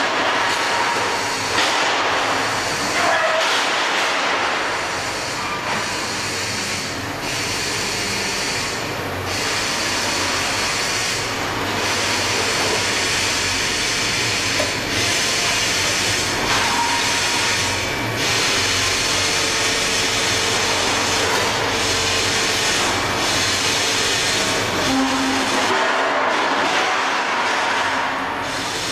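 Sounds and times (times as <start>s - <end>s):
loud hissing machinery: 0.0s - 28.9s.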